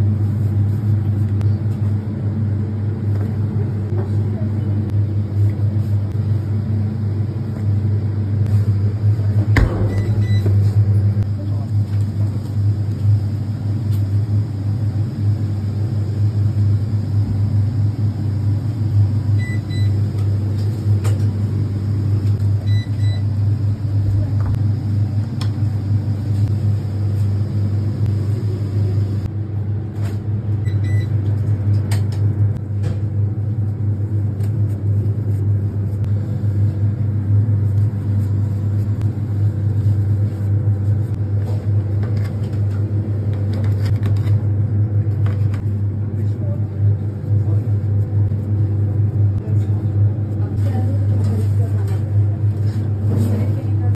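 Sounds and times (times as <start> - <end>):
kitchen machine hum: 0.0 - 53.9.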